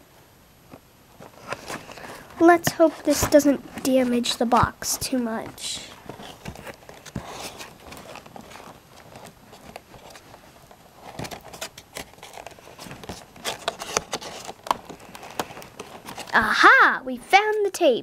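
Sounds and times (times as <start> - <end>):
plastic packaging crinkling: 1.1 - 16.4.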